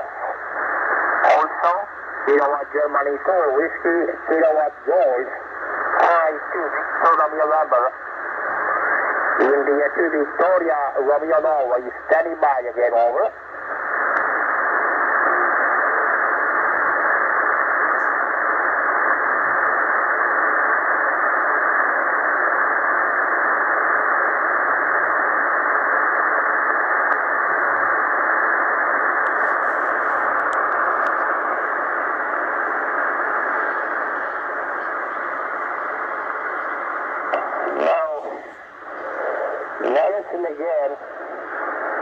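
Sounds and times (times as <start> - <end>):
shortwave radio static hiss: 0.0 - 42.0.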